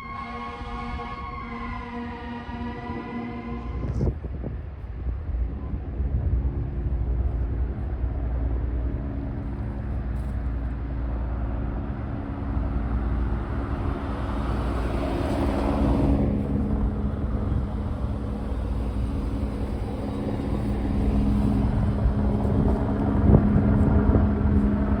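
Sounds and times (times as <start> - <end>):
engine running steadily: 3.5 - 25.0.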